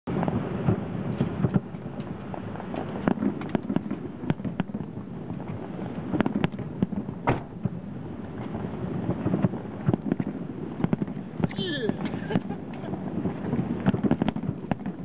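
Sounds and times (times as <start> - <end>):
fireworks cracking and banging: 0.1 - 15.0
low rumble: 1.6 - 15.0.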